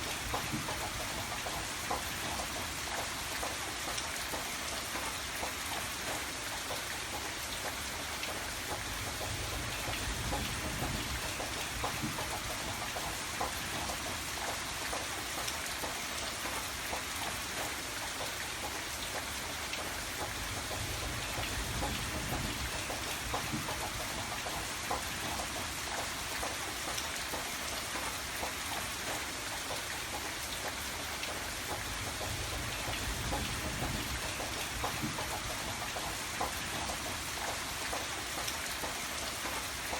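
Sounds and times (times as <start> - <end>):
rain drops ticking on hard surface: 0.0 - 39.9.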